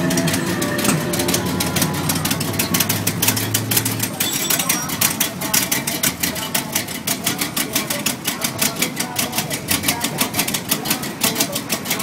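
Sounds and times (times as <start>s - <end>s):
car engine pulsing exhaust: 0.0s - 11.4s.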